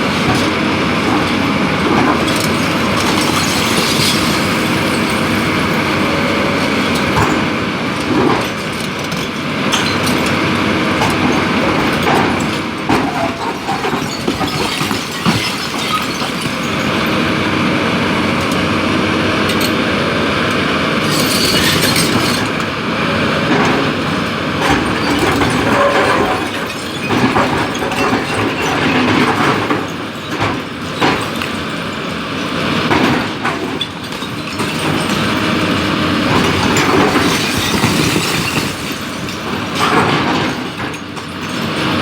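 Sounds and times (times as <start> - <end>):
rock and steel bucket clattering: 0.0 - 17.5, 21.0 - 42.0
excavator diesel engine: 0.0 - 42.0.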